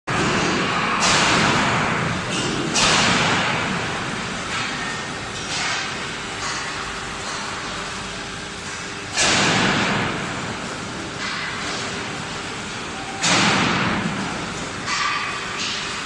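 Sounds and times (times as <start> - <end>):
welding line machinery noise: 0.1 - 16.0.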